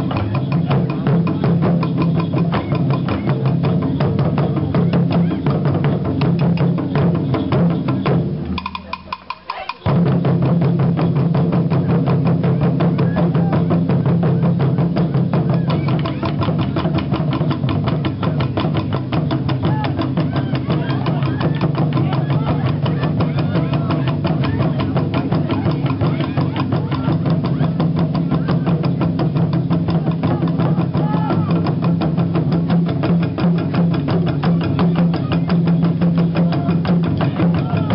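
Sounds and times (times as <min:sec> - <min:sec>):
taiko drum ensemble playing: 0:00.0 - 0:37.9.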